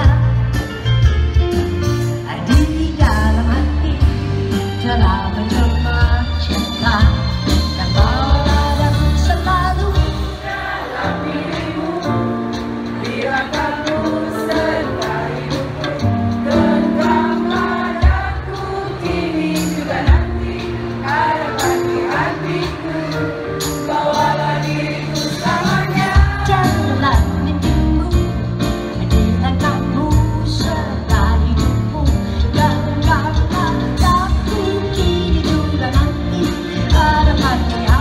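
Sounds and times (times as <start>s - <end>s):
band with guitars and drums: 0.0s - 38.0s
woman singing into microphone: 2.2s - 10.4s, 11.1s - 28.5s, 29.2s - 38.0s.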